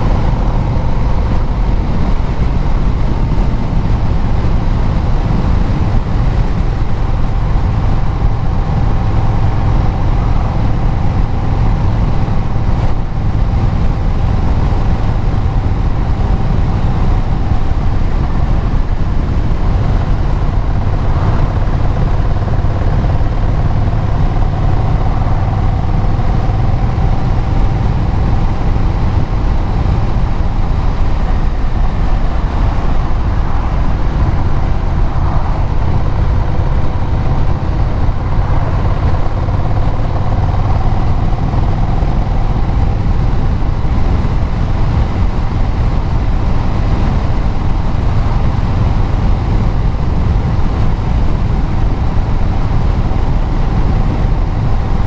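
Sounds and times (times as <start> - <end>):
road noise: 0.0 - 55.0
vehicle engine and exhaust: 0.0 - 55.0
wind noise: 0.0 - 55.0.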